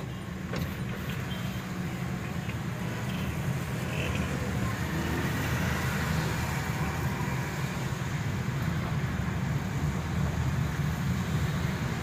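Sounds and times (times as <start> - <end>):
car road noise on wet road: 0.0 - 12.0.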